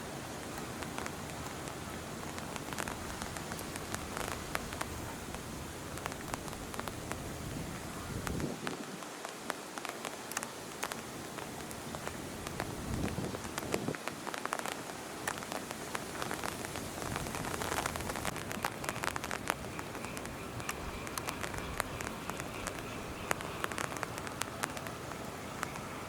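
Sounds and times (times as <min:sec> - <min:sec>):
rain on a hard surface: 0:00.0 - 0:26.0.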